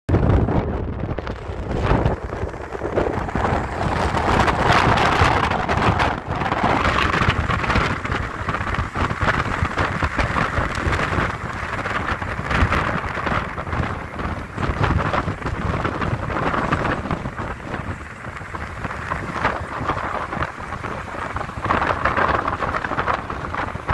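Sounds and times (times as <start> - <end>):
car road noise: 0.1 - 23.9
wind rushing over microphone: 0.1 - 23.9.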